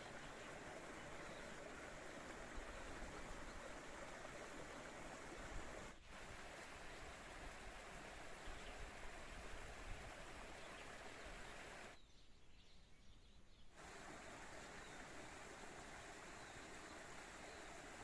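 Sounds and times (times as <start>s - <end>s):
flowing spring water: 0.0s - 12.0s, 13.7s - 18.0s.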